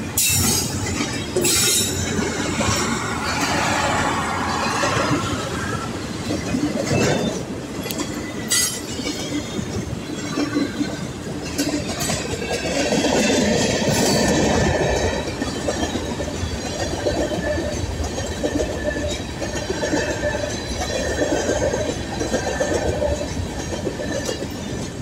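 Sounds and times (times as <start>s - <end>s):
freight train rolling past: 0.0s - 25.0s
wheels clanking over rail joints: 0.0s - 25.0s.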